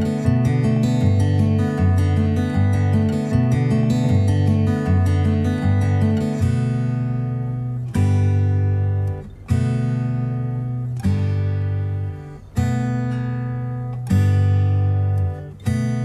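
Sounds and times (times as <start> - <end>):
guitar chords ringing: 0.0 - 16.0.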